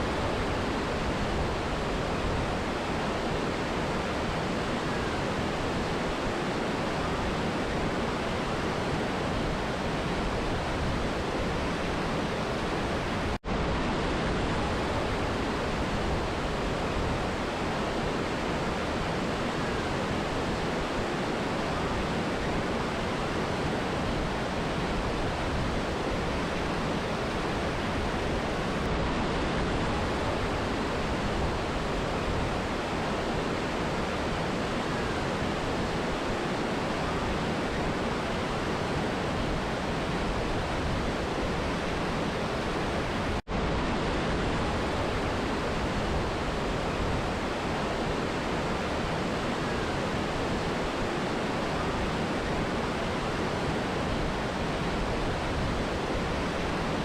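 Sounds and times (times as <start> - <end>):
river and waterfall rushing: 0.0 - 57.0.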